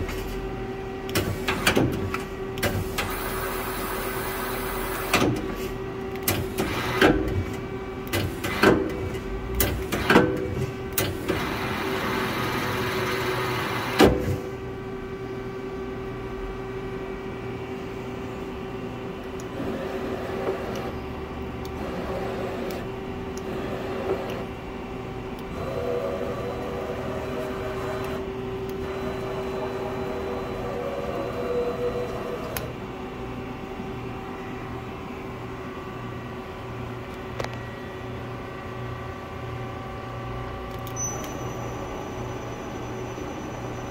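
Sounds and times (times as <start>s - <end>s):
machine hum: 0.0s - 43.9s.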